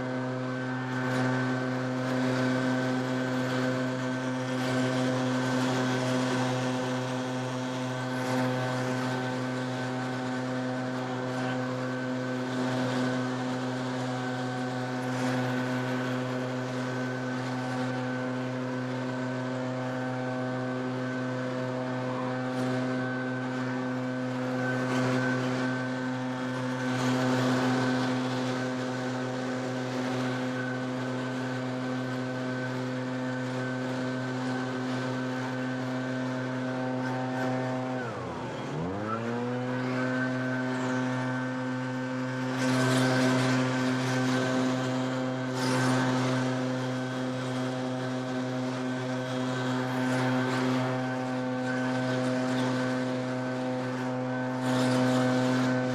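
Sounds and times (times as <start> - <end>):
leaf blower engine running: 0.0 - 55.9.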